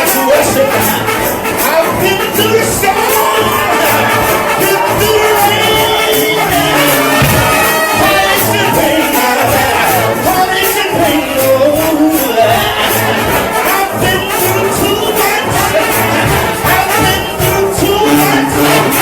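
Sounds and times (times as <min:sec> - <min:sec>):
live gospel band music: 0:00.0 - 0:19.0.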